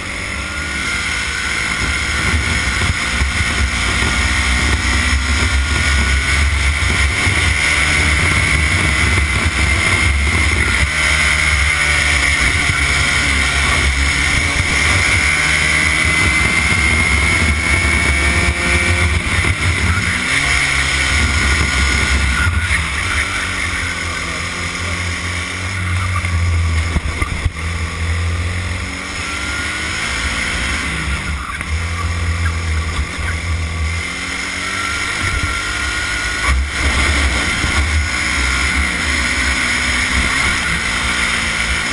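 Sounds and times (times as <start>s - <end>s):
racing kart engine: 0.0s - 41.9s.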